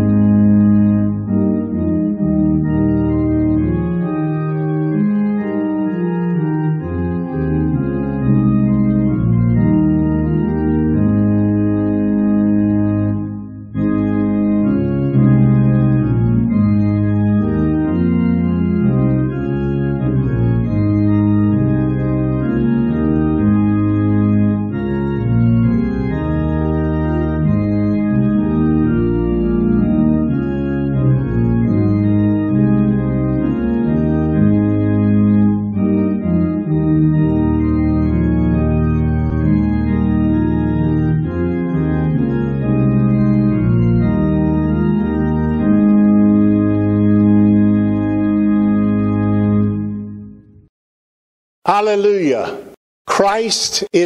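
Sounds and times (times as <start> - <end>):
organ playing hymn chords: 0.0 - 50.7, 51.7 - 54.0.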